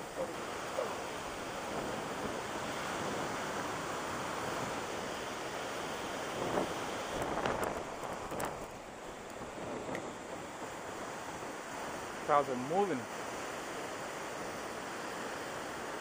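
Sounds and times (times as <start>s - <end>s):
strong wind buffeting microphone: 0.0s - 14.8s.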